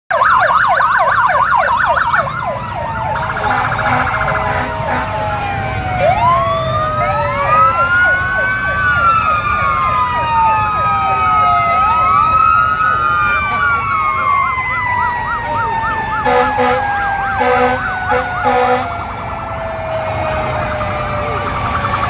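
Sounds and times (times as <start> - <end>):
police sirens wailing: 0.1 - 22.0.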